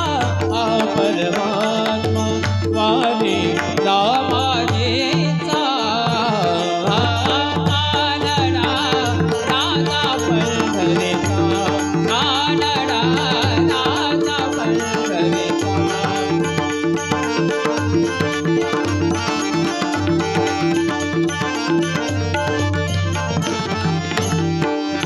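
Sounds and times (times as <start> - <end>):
tabla rhythm: 0.0 - 25.0.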